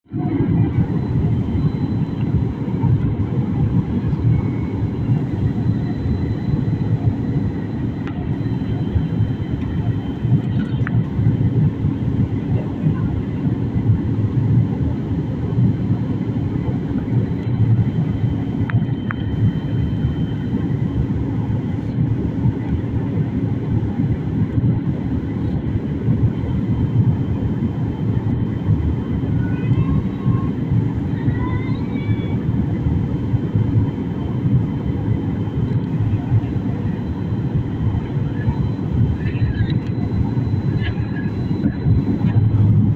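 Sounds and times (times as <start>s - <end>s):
airliner engine drone: 0.0s - 42.9s
faint high whine: 0.2s - 42.9s.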